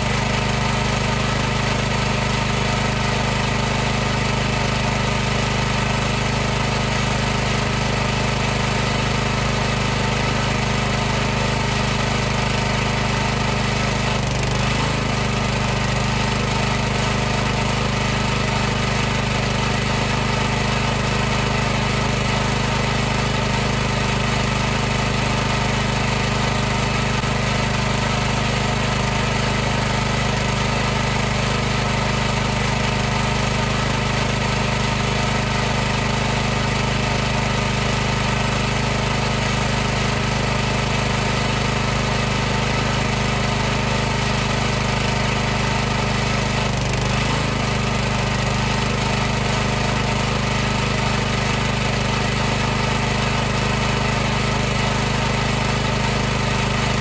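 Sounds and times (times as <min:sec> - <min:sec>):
pressure washer motor hum: 0:00.0 - 0:57.0.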